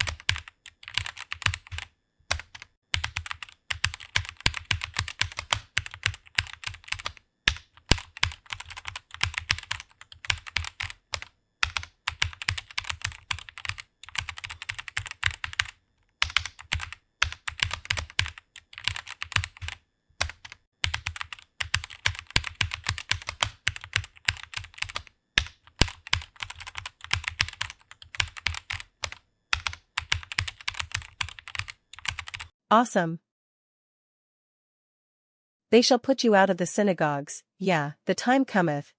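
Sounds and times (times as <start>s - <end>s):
fast keyboard typing: 0.0s - 32.5s.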